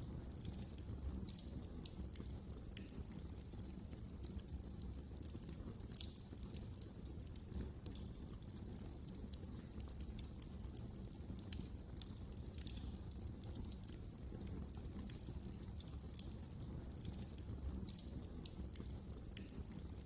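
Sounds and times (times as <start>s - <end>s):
low rumble of burning fire: 0.0s - 20.0s
wood fire crackling: 0.0s - 20.0s.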